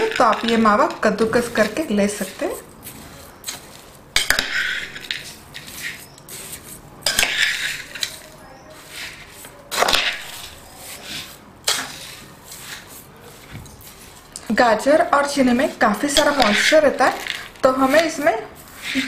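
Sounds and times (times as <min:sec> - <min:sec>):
spoon scraping in pot: 0:00.0 - 0:19.0.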